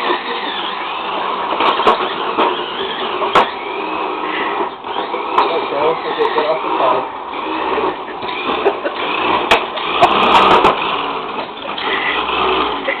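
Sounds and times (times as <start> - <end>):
toy car motor whirring: 0.0 - 13.0.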